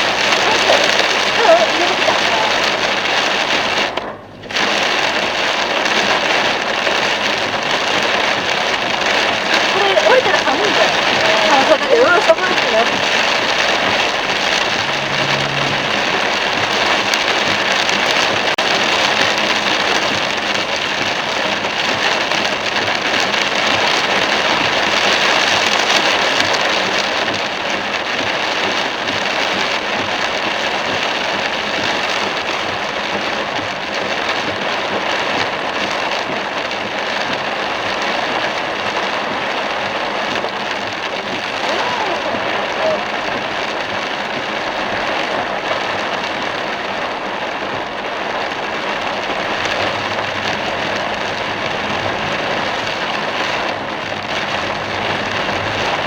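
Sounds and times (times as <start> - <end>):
heavy rain pelting a car: 0.0 - 56.0
tyres hissing on wet road: 0.0 - 56.0.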